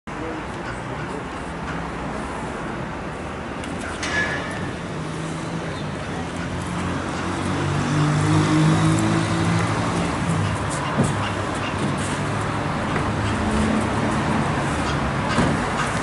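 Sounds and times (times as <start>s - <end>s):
vehicle engine humming: 0.1s - 16.0s.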